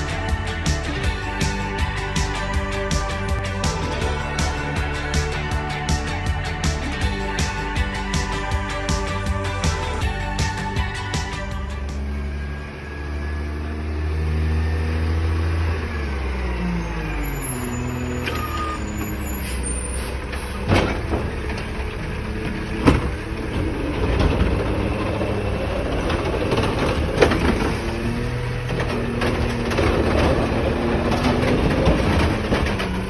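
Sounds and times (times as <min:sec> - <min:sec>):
garbage truck engine: 0:00.0 - 0:33.0.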